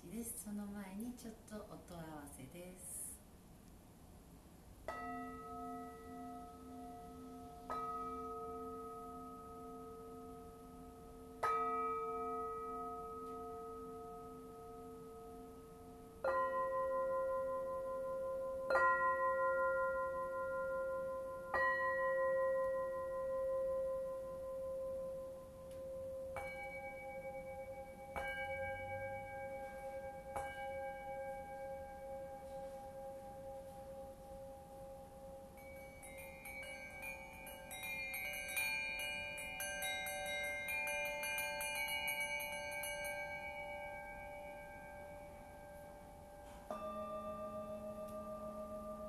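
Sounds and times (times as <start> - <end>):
singing bowls struck with mallet: 4.9 - 49.0.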